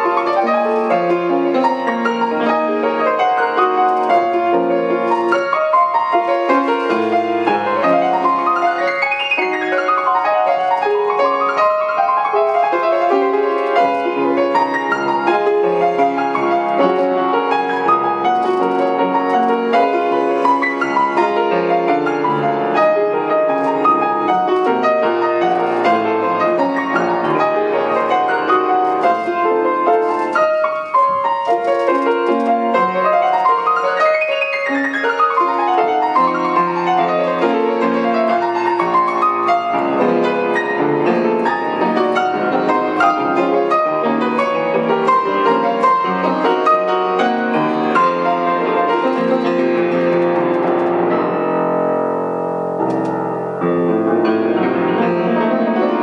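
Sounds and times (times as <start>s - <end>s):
solo classical piano: 0.0s - 56.0s.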